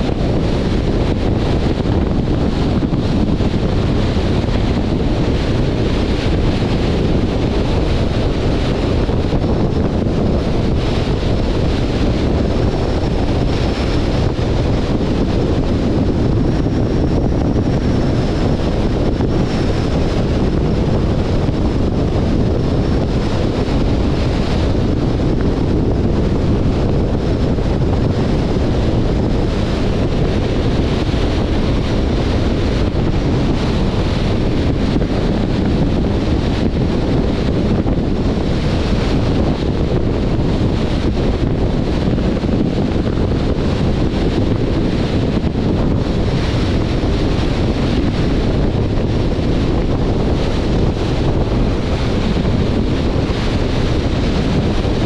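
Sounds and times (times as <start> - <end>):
road and tyre noise: 0.0 - 55.0
wind rushing over microphone: 0.0 - 55.0.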